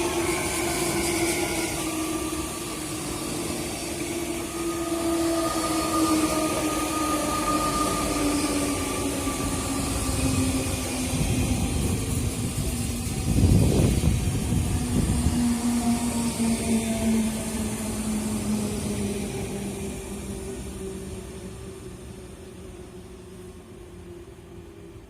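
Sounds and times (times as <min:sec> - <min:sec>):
electric train whine: 0:00.0 - 0:25.0
train wheels rumbling: 0:00.0 - 0:25.0.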